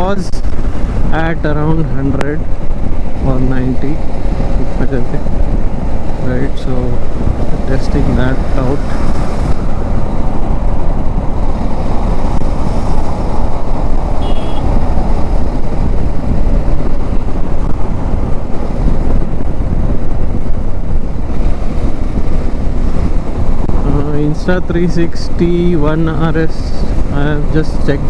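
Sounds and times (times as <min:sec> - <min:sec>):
motorcycle road and engine noise: 0:00.0 - 0:28.0
wind buffeting microphone: 0:00.0 - 0:28.0.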